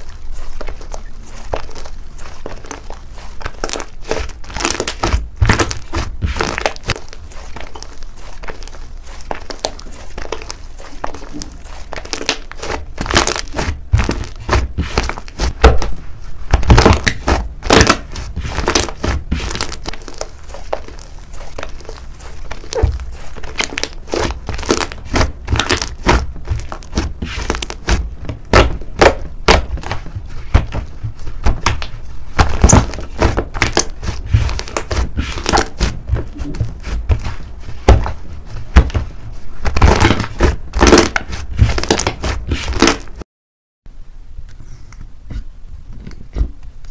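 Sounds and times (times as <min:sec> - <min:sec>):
slime squelching and crackling: 0:00.0 - 0:43.2.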